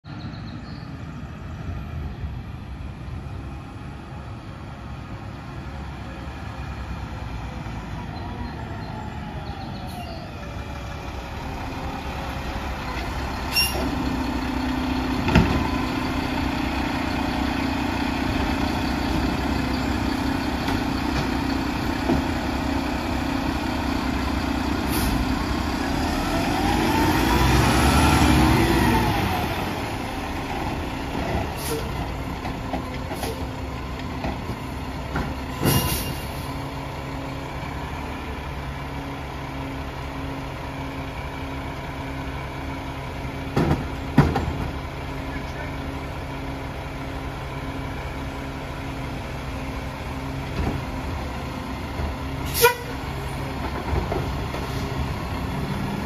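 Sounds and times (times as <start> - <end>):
garbage truck engine running: 5.2 - 56.0.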